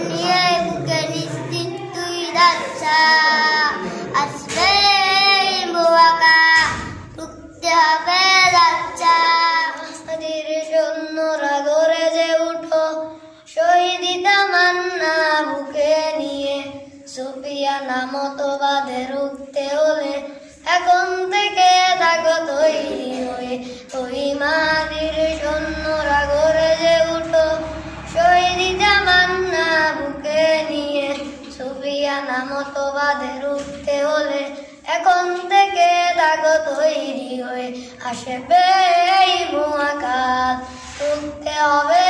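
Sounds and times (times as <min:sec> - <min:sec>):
boy singing: 0:00.0 - 0:42.0.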